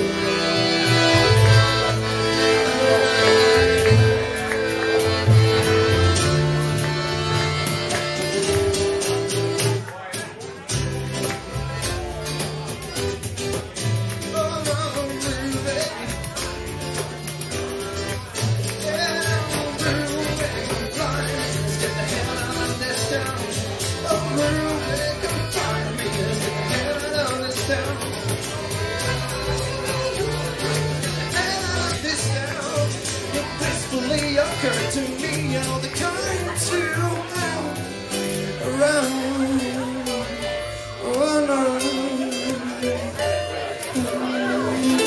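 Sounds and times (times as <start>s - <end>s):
accordion melody: 0.0s - 45.0s
acoustic bass guitar notes: 0.0s - 45.0s.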